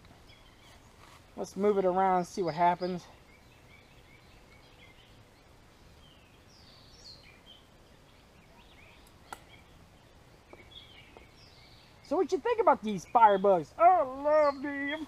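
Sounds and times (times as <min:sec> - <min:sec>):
faint bird chirps: 0:02.8 - 0:15.0.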